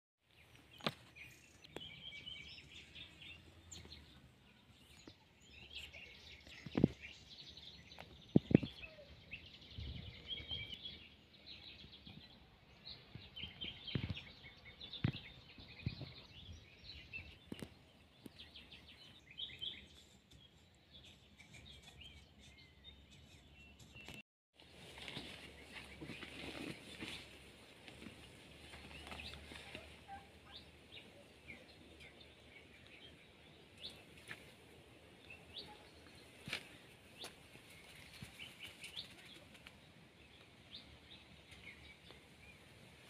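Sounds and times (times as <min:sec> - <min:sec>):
small birds chirping: 0:00.2 - 0:43.0.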